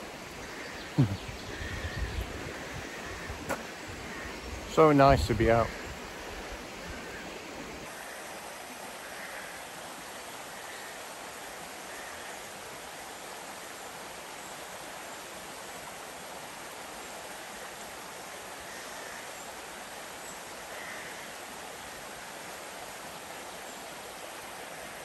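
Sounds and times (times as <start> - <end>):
stream running over stones: 0.0 - 25.0.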